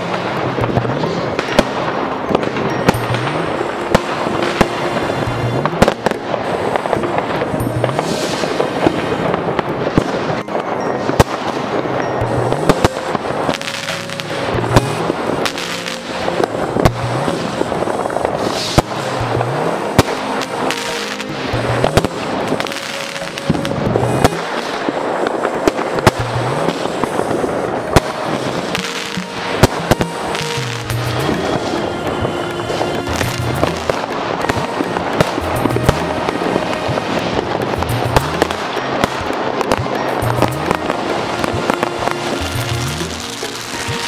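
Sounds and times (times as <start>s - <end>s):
crackle and hiss of fireworks: 0.0s - 44.0s
firework bangs: 0.0s - 44.0s.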